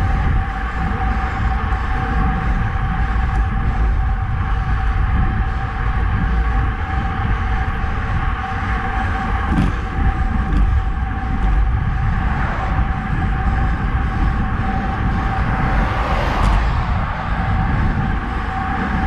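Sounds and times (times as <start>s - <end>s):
steady hum: 0.0s - 19.0s
tyres rolling on asphalt: 0.0s - 19.0s
wind rushing over microphone: 0.0s - 19.0s.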